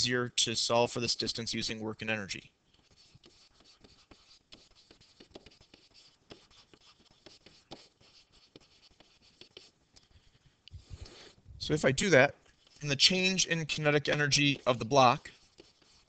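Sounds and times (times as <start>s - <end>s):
stylus writing on tablet screen: 1.0s - 16.0s.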